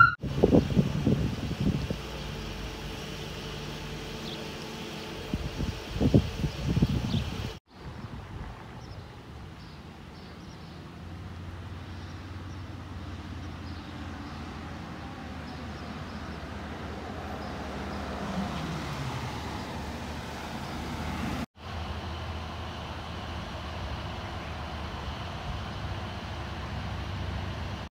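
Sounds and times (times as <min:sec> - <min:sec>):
ambulance driving past: 0:00.0 - 0:06.2, 0:11.0 - 0:27.9
low engine hum idling: 0:00.0 - 0:07.6, 0:10.4 - 0:27.9.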